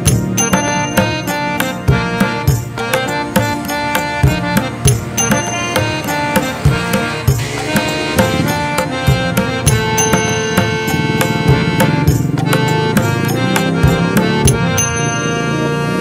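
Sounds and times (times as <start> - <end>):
hand drums: 0.0 - 15.4
held melodic notes: 0.0 - 16.0.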